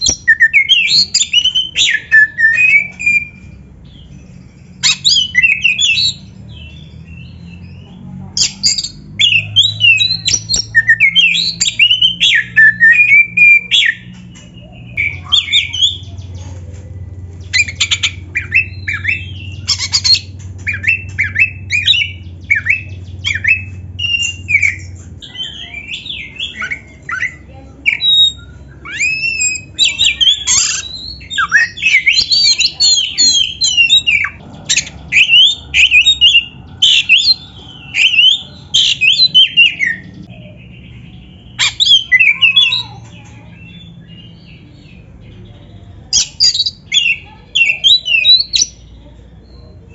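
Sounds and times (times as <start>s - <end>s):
bird singing: 0.0s - 49.9s
faint low hum: 0.0s - 49.9s.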